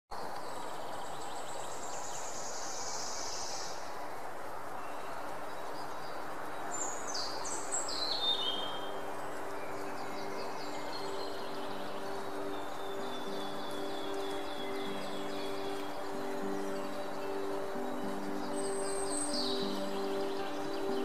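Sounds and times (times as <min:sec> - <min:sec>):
steady outdoor hiss: 0:00.1 - 0:21.0.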